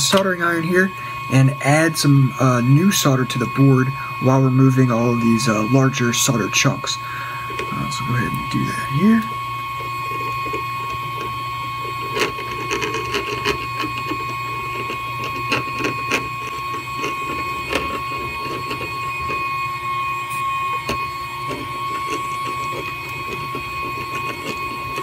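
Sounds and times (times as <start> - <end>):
crackling flux: 0.0 - 25.0
high electronic whine: 0.0 - 25.0
low equipment hum: 0.0 - 25.0.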